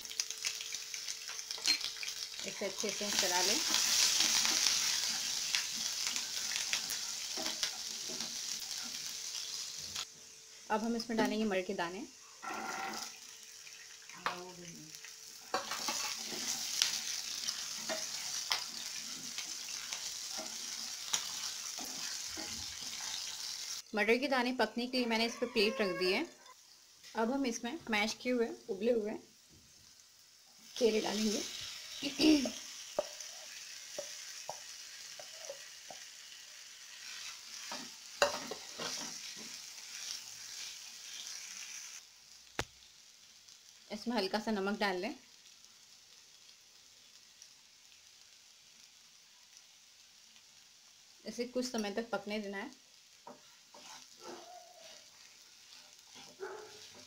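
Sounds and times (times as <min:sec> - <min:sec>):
oil sizzling in frying pan: 0:00.0 - 0:57.0.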